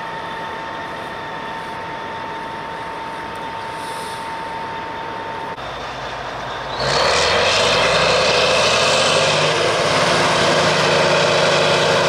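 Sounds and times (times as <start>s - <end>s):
heavy truck engine droning: 0.0s - 12.0s.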